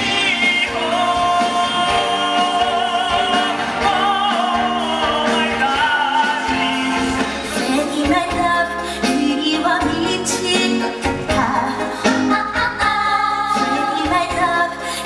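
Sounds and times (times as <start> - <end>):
musical theatre singing with band: 0.0 - 15.0.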